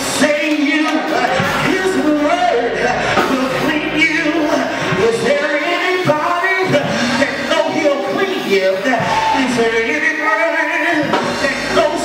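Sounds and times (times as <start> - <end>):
backing music: 0.0 - 12.0
man singing gospel: 0.0 - 12.0.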